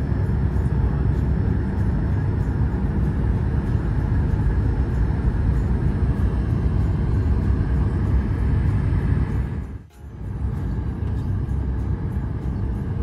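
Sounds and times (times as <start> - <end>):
air rushing in cabin: 0.0 - 13.0
jet engines rumbling: 0.0 - 13.0.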